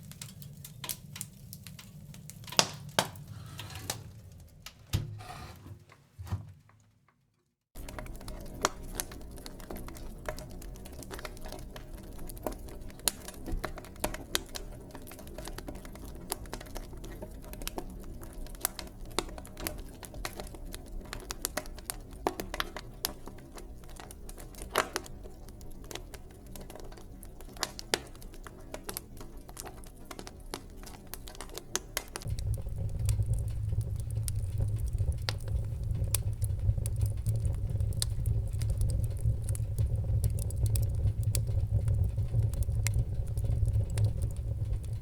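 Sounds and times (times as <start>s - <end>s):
wood fire crackling: 0.0s - 5.4s, 7.7s - 45.0s.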